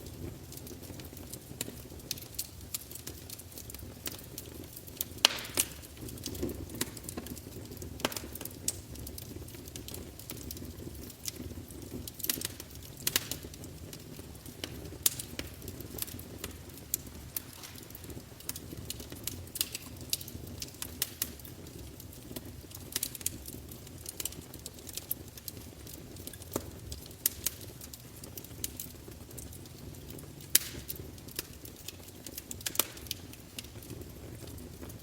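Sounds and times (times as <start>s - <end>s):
low rumble of flame: 0.0s - 35.0s
sharp pops from fire: 0.0s - 35.0s
wood fire crackling: 0.0s - 35.0s.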